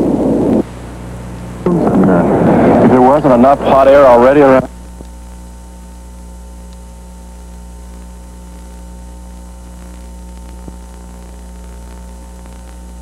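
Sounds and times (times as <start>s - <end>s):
mains hum: 0.0s - 13.0s
videotape hiss: 0.0s - 13.0s.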